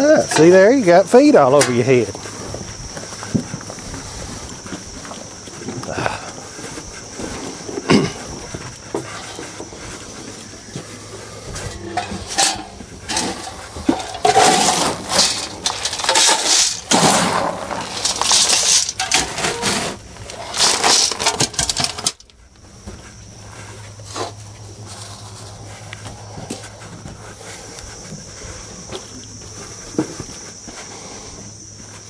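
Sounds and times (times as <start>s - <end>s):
feed buckets clattering and knocking: 0.0s - 31.6s.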